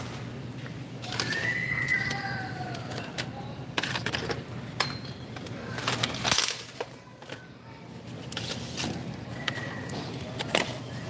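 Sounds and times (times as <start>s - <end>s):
items clattering: 0.0s - 11.0s
low background hum: 0.0s - 11.0s
plastic packages clicking on shelf: 0.6s - 7.5s, 8.1s - 11.0s.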